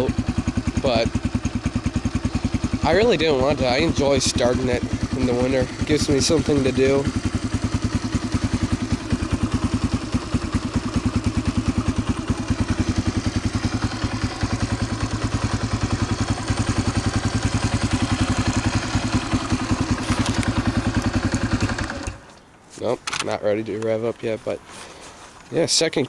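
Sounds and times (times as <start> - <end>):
motorcycle engine idling: 0.0 - 22.4.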